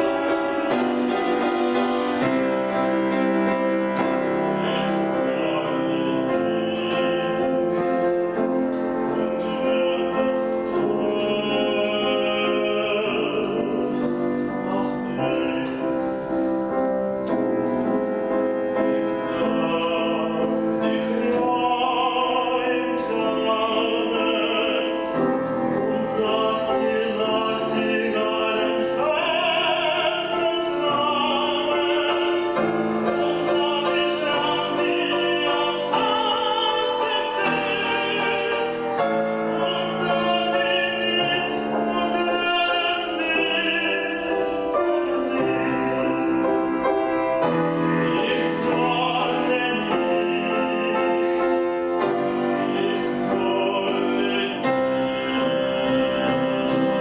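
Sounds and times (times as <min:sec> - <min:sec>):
piano accompaniment: 0:00.0 - 0:57.0
tenor singing: 0:00.0 - 0:57.0.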